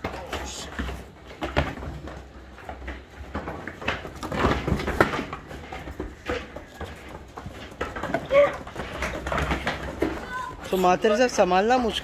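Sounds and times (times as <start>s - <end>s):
goats scuffling: 0.0s - 12.0s
hooves knocking on wooden boards: 0.0s - 12.0s.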